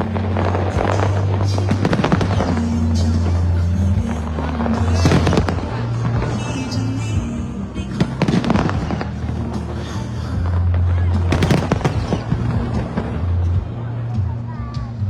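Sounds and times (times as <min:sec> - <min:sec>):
fireworks exploding: 0:00.0 - 0:14.2
background music: 0:00.0 - 0:15.0.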